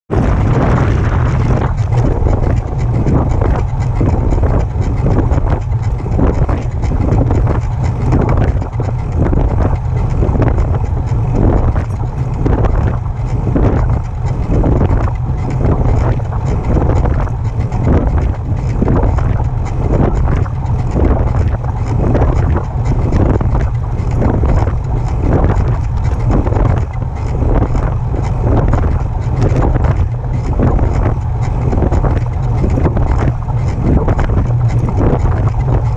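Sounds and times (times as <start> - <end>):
rhythmic bike pedaling noise: 0.1 - 35.9
wind rumble on microphone: 0.1 - 35.9.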